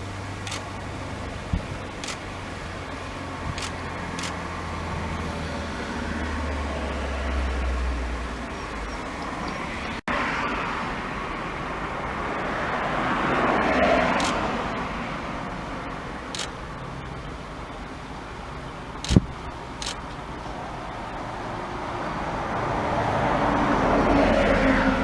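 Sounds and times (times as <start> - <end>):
vehicle passing: 0.0 - 17.0, 19.0 - 25.0
traffic rumble: 0.0 - 25.0.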